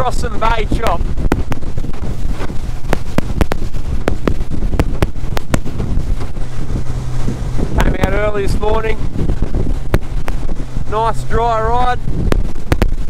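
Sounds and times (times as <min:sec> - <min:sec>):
boat hull slapping water: 0:00.0 - 0:13.0
outboard motor drone: 0:00.0 - 0:13.0
wind buffeting microphone: 0:00.0 - 0:13.0.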